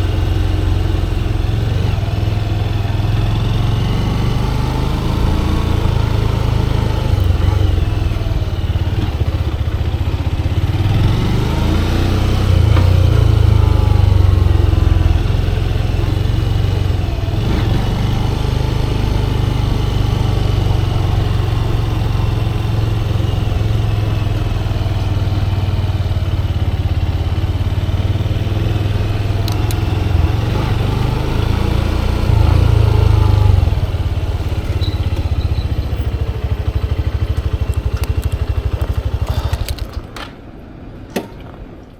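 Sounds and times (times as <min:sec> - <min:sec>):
motorcycle engine running: 0:00.0 - 0:40.3.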